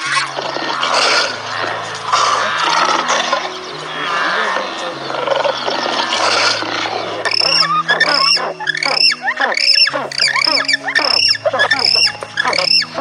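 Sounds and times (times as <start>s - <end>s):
penguins squawking: 0.0s - 13.0s.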